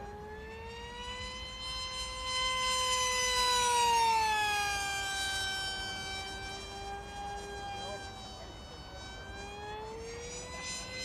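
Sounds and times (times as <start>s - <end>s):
model jet motor whining: 0.0s - 11.0s.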